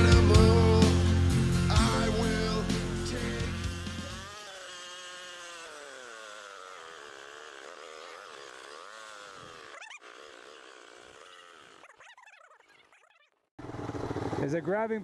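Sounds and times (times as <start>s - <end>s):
three-wheeler engine running: 0.0s - 15.0s.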